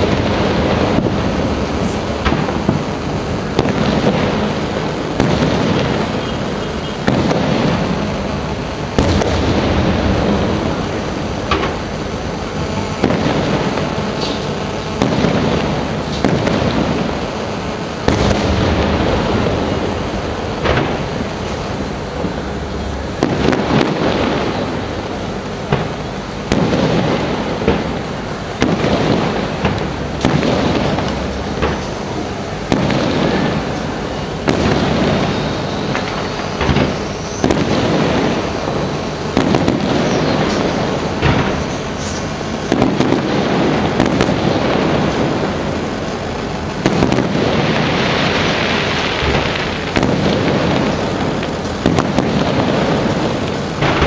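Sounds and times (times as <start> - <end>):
firework shells bursting: 0.0 - 54.0
rolling echo: 0.0 - 54.0.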